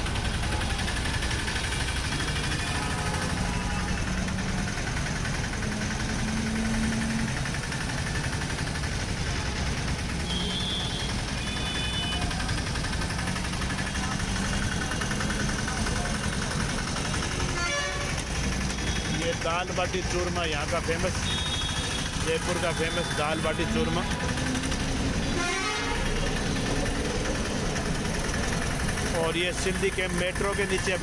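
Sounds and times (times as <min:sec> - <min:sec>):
vehicle engines humming: 0:00.0 - 0:31.0.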